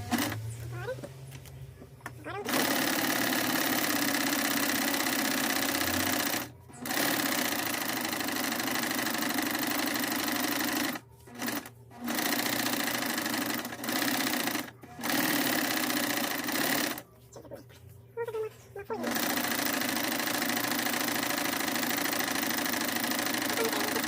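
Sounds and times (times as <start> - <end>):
sewing machine stitching: 0.0 - 0.5, 2.3 - 17.0, 18.9 - 24.0.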